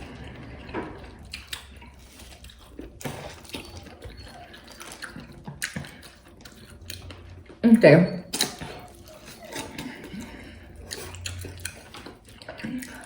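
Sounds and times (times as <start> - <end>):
wet eating sounds: 0.0 - 13.0.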